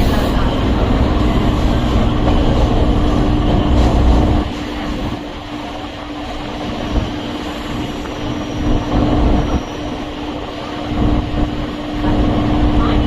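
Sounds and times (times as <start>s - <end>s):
electric train hum: 0.0s - 13.0s
train wheels rumbling on track: 0.0s - 13.0s.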